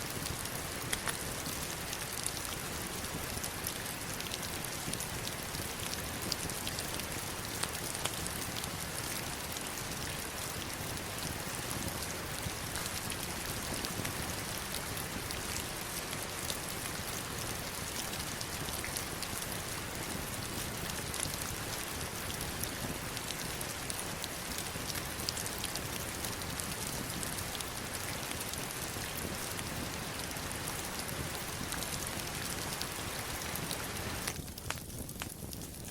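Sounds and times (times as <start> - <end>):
heavy rain on stones and river: 0.0 - 35.9.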